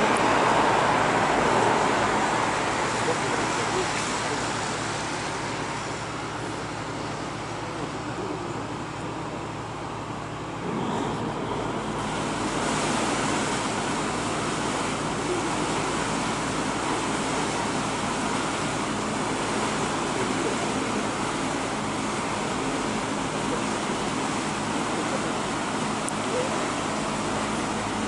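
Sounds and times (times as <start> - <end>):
faint low engine hum: 0.0 - 28.0
propeller wash water rushing: 0.0 - 28.0.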